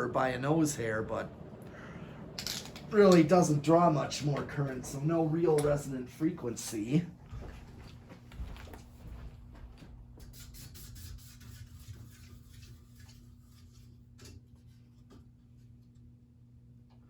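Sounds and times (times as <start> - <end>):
ceiling fan motor humming: 0.0 - 17.0.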